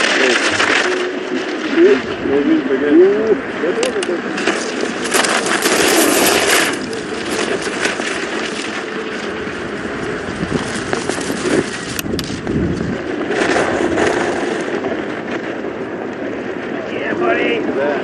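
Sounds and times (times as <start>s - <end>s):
skis scraping on icy snow: 0.0s - 18.0s.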